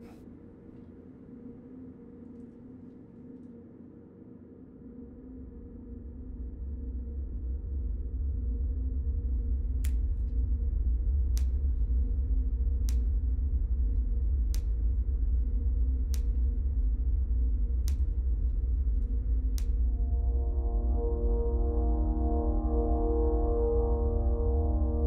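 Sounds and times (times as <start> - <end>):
low rumbling drone: 4.8 - 25.0.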